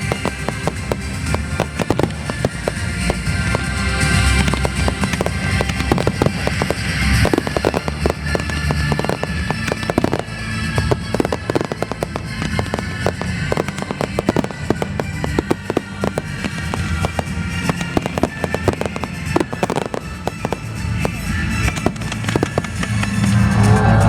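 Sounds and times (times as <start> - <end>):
fireworks booms: 0.0 - 23.9
fireworks crackling: 0.0 - 24.0
sharp fireworks cracks: 0.0 - 24.0.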